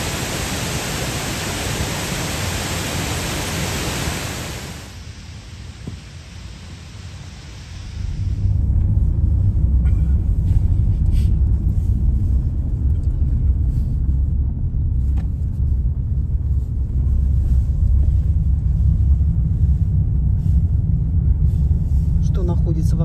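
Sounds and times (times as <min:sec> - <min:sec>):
road and engine rumble in car: 0:00.0 - 0:23.0.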